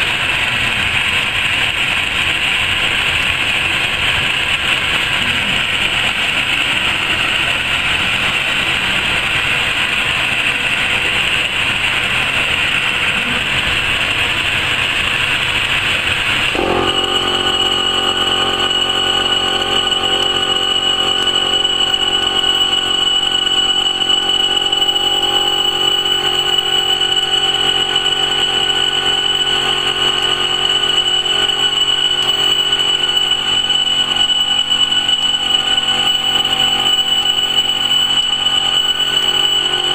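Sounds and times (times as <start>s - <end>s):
high constant whine: 0.0s - 39.9s
laser cutting machine noise: 0.0s - 39.9s.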